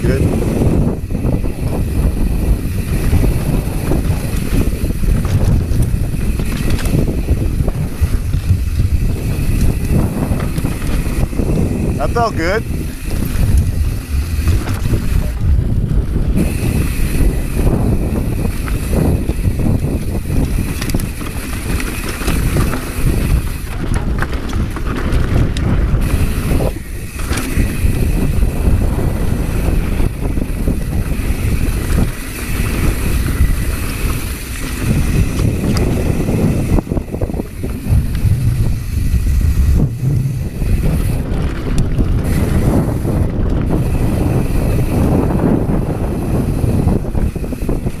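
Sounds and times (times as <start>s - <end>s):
bike knocks and rattles: 0.0s - 48.0s
bike tyres rumbling over dirt: 0.0s - 48.0s
wind buffeting microphone: 0.0s - 48.0s.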